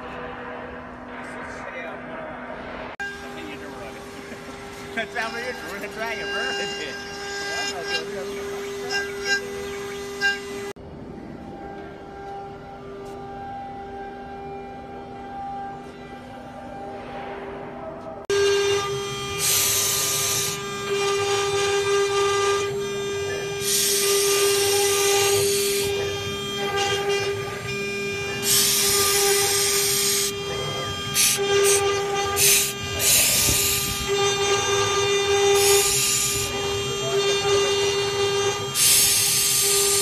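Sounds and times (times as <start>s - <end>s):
hissing cutting noise: 0.0s - 10.8s, 16.5s - 40.0s
router spindle whining: 3.0s - 16.9s, 18.3s - 40.0s.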